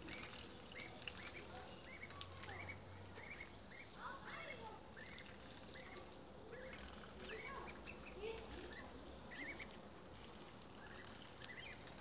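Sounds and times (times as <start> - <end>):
ducklings peeping: 0.1 - 12.0.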